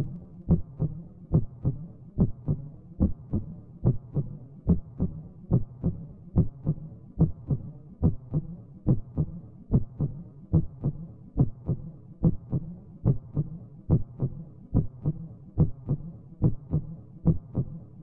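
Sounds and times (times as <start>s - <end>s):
heartbeat thumps: 0.0s - 17.8s.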